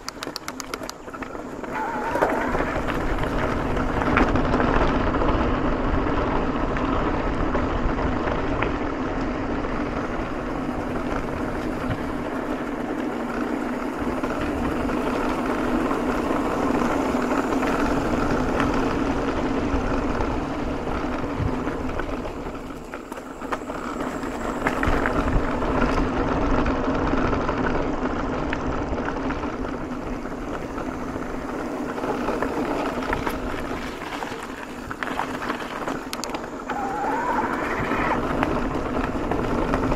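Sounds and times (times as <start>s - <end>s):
bike tyre noise: 0.0s - 39.9s
wind buffeting microphone: 0.0s - 39.9s.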